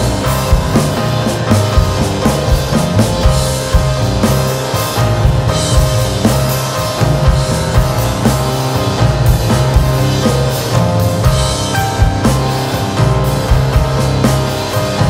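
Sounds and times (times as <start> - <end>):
drum kit hitting: 0.0 - 15.0
instrumental rock music: 0.0 - 15.0.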